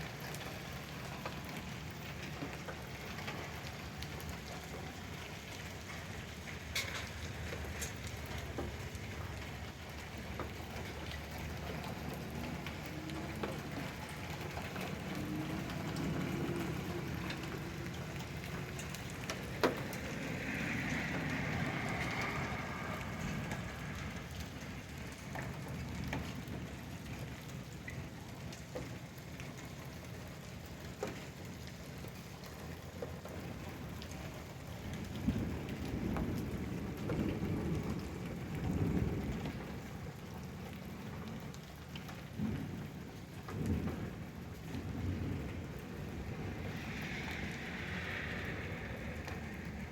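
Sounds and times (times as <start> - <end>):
rain and hail falling: 0.0 - 49.9.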